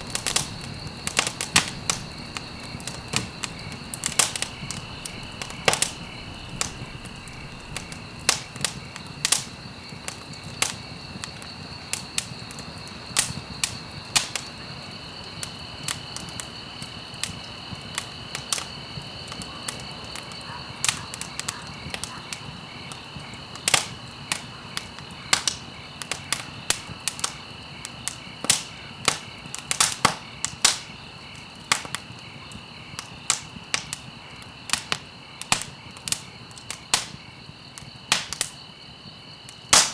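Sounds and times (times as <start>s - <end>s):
wood fire crackles and pops: 0.0s - 39.9s.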